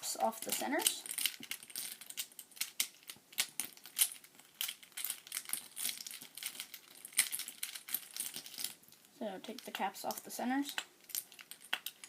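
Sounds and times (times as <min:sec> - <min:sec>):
plastic puzzle cube pieces clicking: 0:00.1 - 0:12.0.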